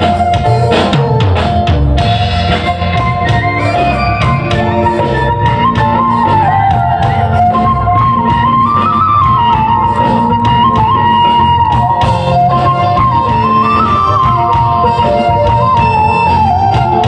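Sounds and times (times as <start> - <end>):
bass and percussion backing: 0.0 - 17.0
transverse flute melody: 2.0 - 17.0.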